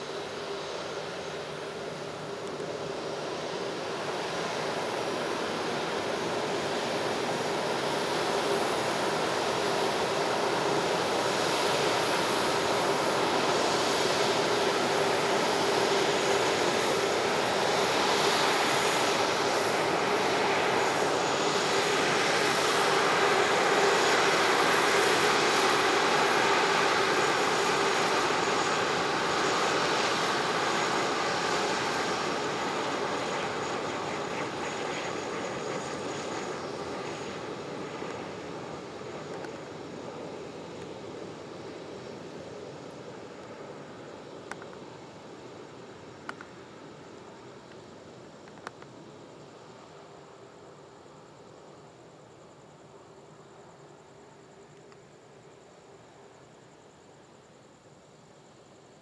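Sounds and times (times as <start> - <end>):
jet engines roaring: 0.0 - 55.4.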